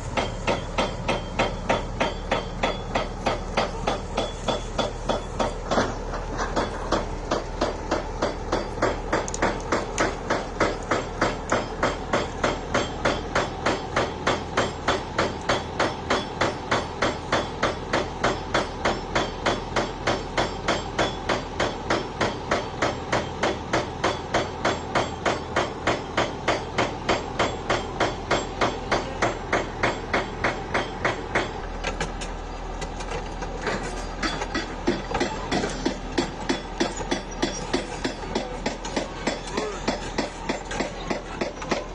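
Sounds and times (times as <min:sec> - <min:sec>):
rapid regular hammering: 0:00.0 - 0:41.9.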